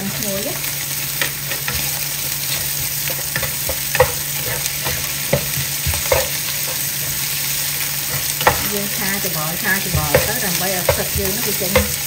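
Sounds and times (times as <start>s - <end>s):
mushrooms and onion sizzling: 0.0s - 12.0s
spatula scraping a pan: 1.2s - 12.0s.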